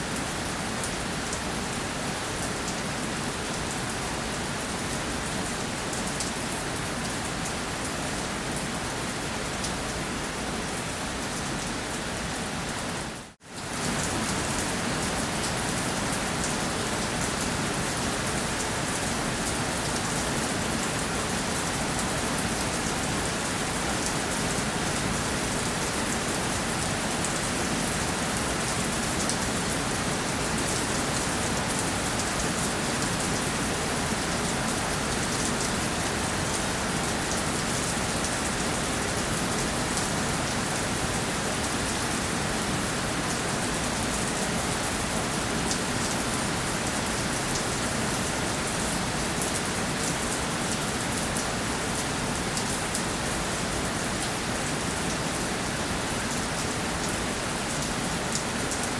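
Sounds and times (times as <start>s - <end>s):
steady rain hissing: 0.0s - 58.9s.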